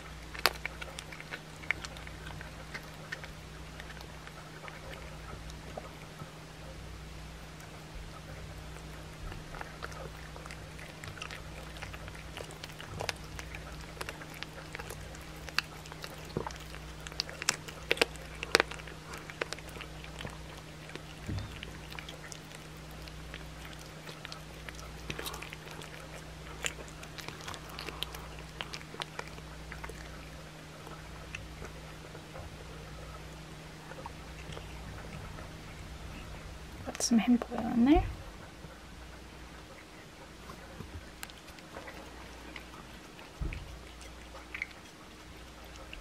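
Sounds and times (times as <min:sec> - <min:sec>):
cat crunching bones: 0:00.0 - 0:36.5, 0:38.6 - 0:46.0.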